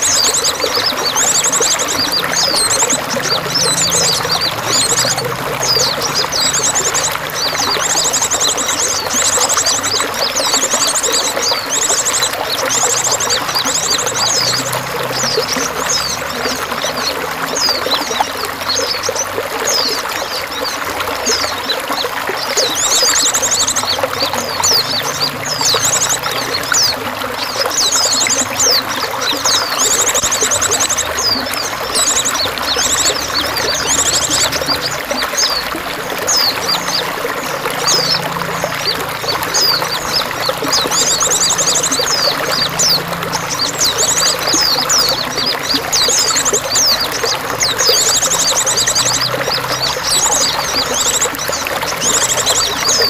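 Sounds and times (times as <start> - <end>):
running water: 0.0 - 53.0
small birds chirping and trilling: 0.0 - 53.0.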